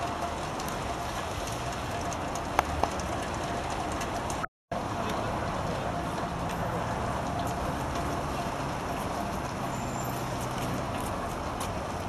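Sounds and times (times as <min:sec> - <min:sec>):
traffic hiss on wet street: 0:00.0 - 0:12.0.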